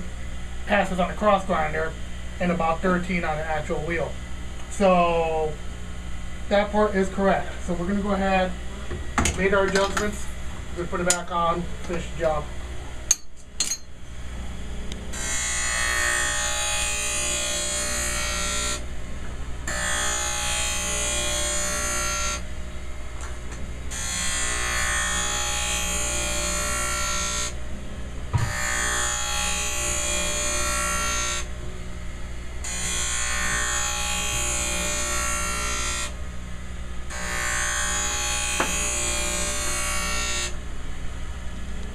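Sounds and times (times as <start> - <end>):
motor hum: 0.0 - 41.9.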